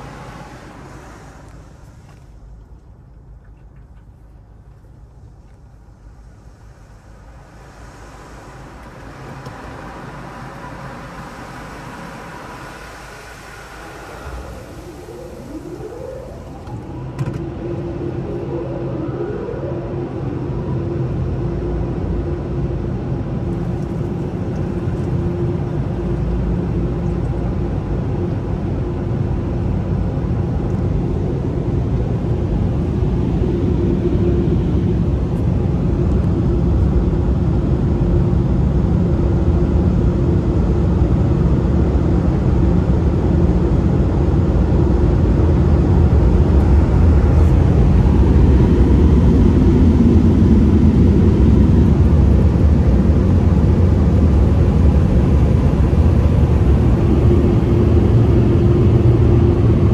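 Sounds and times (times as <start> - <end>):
rushing noise: 0.0 - 2.4, 5.8 - 59.9
car wash machinery humming: 0.0 - 2.6, 5.2 - 59.9.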